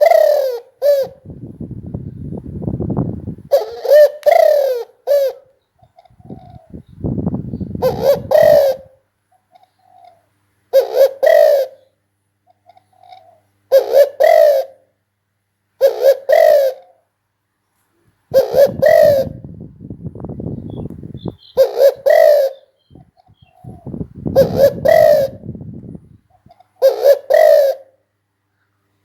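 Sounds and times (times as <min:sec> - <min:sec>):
dove cooing: 0:00.0 - 0:02.1, 0:03.0 - 0:15.0, 0:15.8 - 0:17.1, 0:18.3 - 0:28.1.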